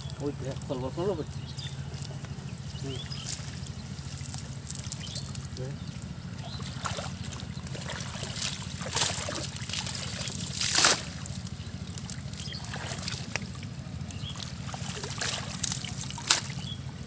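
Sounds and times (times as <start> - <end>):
short water splashes: 0.0 - 17.0
steady low hum: 0.0 - 17.0
water sloshing and dripping: 0.0 - 17.0.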